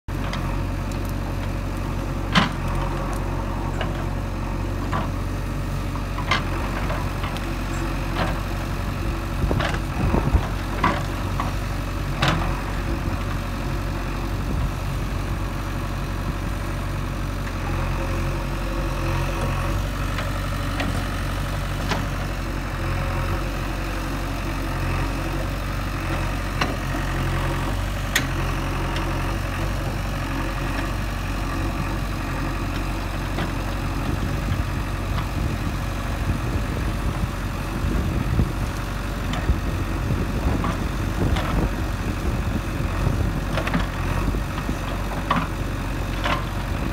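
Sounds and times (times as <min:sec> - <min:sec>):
diesel engine running: 0:00.1 - 0:46.9.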